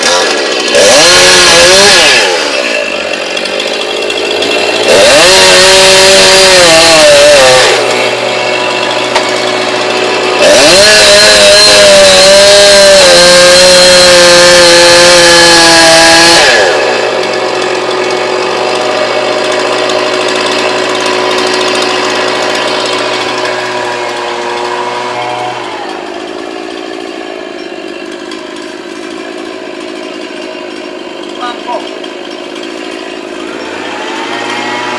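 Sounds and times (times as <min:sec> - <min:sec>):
chainsaw revving and idling: 0:00.0 - 0:34.9.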